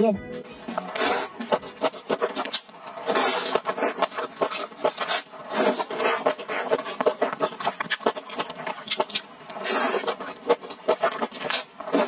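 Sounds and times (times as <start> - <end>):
wet chewing with mouth clicks: 0.7 - 12.0
noodles slurped: 0.8 - 12.0.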